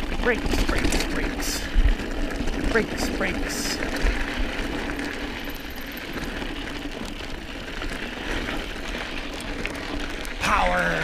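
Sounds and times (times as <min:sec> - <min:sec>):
small clicks and rattles: 0:00.0 - 0:10.5
bike tyres rumbling on gravel: 0:00.0 - 0:11.0.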